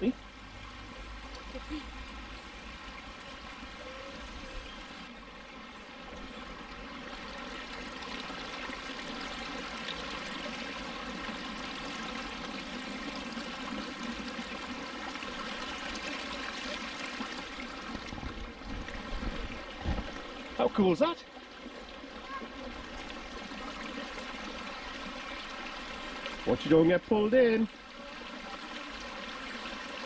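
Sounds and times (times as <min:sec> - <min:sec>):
river water rushing over stones: 0:04.8 - 0:30.0.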